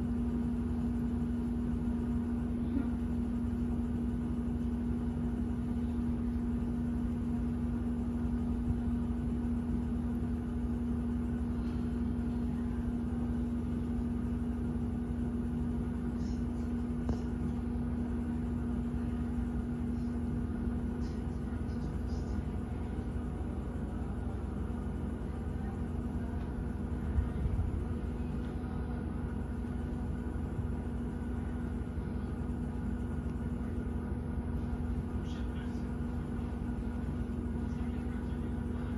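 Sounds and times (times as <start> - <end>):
machine hum: 0.0 - 38.9.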